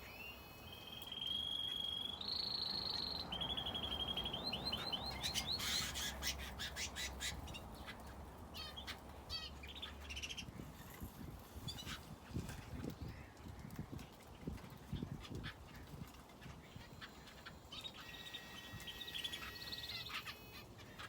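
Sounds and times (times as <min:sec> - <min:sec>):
cage birds singing: 0:00.0 - 0:21.0.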